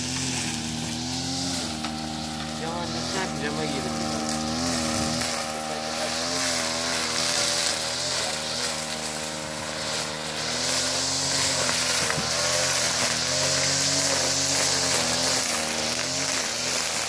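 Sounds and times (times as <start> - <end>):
brush cutter engine running: 0.0 - 17.0.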